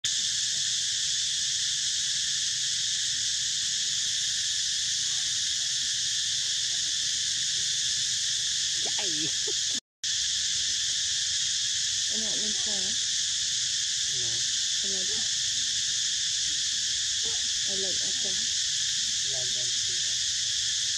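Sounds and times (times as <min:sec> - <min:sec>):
insects buzzing: 0:00.1 - 0:20.9.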